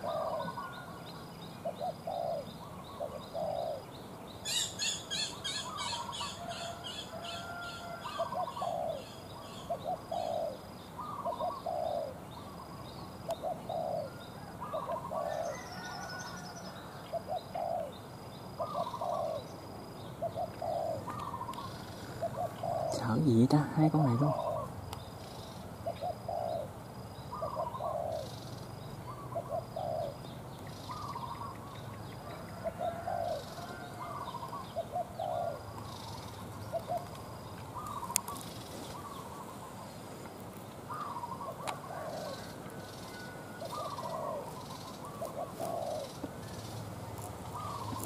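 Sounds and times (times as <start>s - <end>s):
doves cooing: 0.0s - 48.0s.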